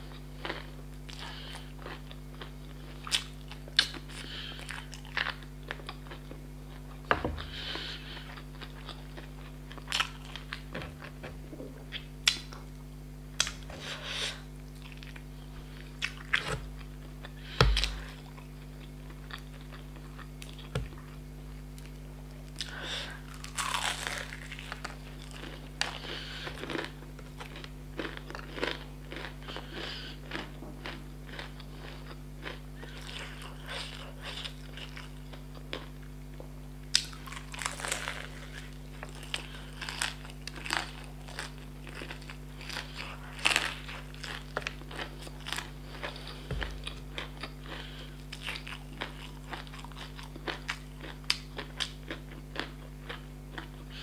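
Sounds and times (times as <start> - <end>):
crunchy chewing: 0.0 - 12.6, 13.4 - 54.0.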